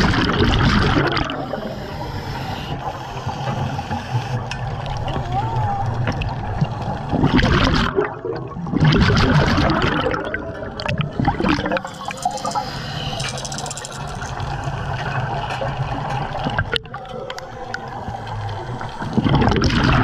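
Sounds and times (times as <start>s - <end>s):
water bubbling and gurgling: 0.0s - 20.0s.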